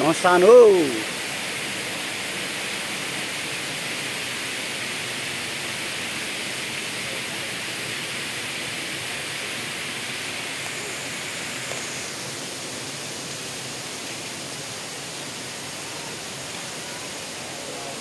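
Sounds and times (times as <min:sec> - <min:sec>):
river rapids and waterfall rushing: 0:00.0 - 0:18.0.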